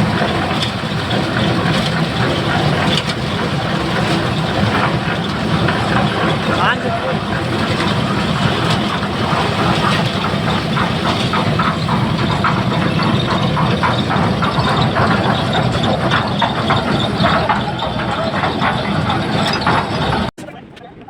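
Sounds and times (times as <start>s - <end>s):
low engine hum: 0.0s - 20.3s
machinery rattling clatter: 0.0s - 20.9s.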